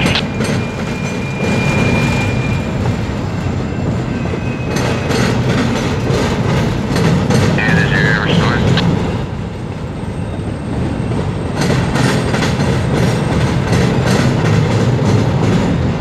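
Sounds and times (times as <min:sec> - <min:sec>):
freight train rumble: 0:00.0 - 0:16.0.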